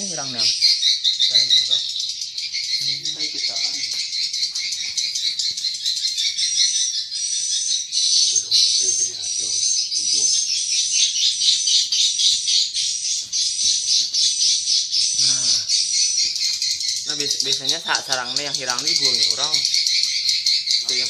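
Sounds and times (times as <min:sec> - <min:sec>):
swiftlets twittering: 0:00.0 - 0:21.0.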